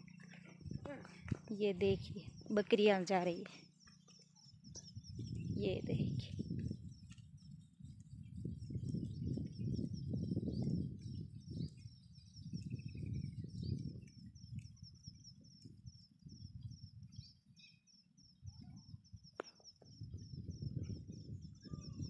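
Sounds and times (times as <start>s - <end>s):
small birds chirping: 0.0s - 22.0s
wind buffeting microphone: 0.0s - 22.0s.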